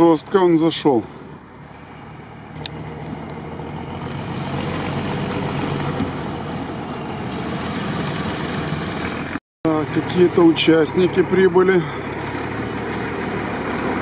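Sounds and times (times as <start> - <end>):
car engine running: 1.5 - 14.0.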